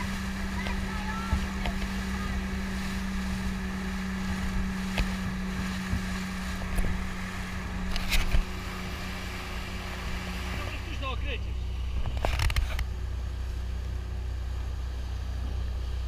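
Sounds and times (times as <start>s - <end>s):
hull slapping on waves: 0.0s - 16.0s
motorboat engine drone: 0.0s - 16.0s
rushing water and spray: 0.0s - 16.0s.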